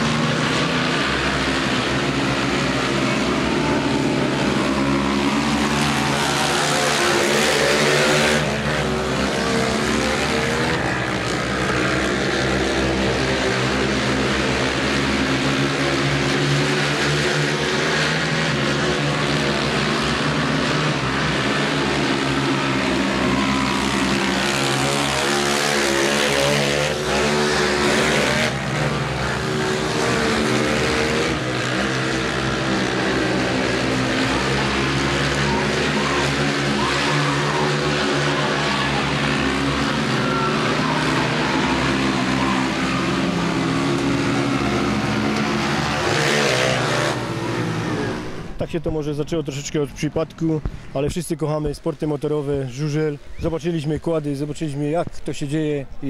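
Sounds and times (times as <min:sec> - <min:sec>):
quad engines revving: 0:00.0 - 0:52.5.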